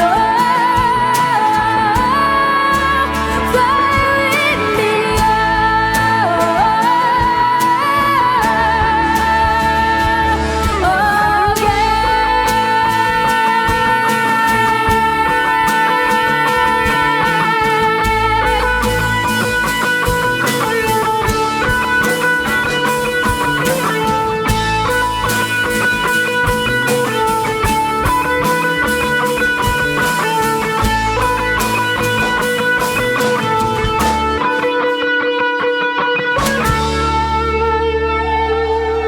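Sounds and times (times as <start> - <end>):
bass guitar: 0.0 - 39.0
drums: 0.0 - 39.0
electric guitars: 0.0 - 39.0.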